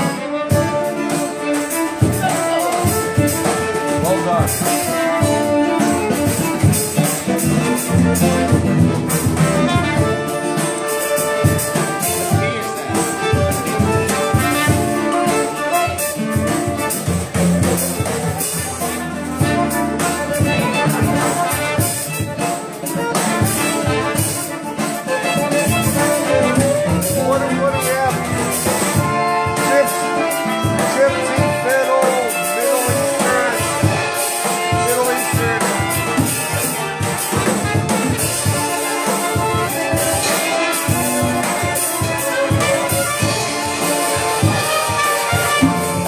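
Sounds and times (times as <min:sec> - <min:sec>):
acoustic guitar: 0:00.0 - 0:46.0
drum hits: 0:00.0 - 0:46.0
piano accordion: 0:00.0 - 0:46.0
violin: 0:00.0 - 0:46.0.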